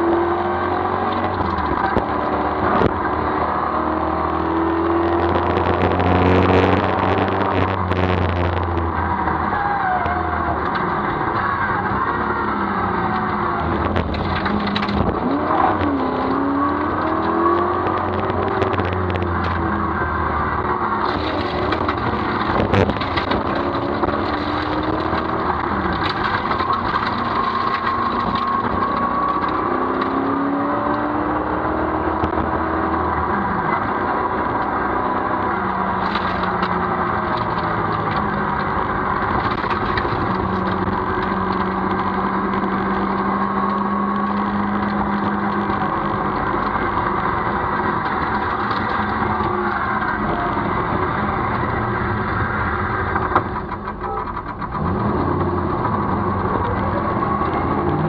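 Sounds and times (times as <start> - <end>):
car engine revving: 0.0 - 58.0
road and tyre noise: 0.0 - 58.0.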